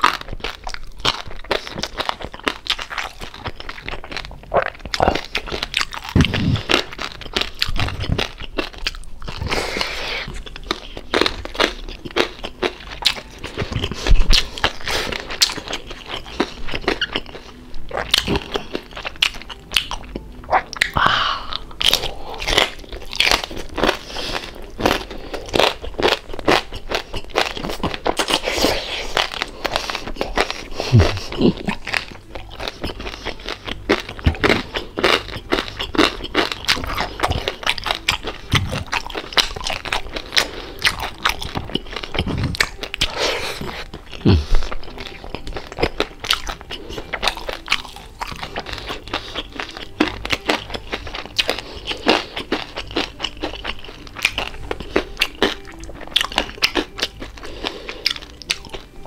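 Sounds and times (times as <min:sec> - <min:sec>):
crunching and chewing crispy food: 0:00.0 - 0:59.0.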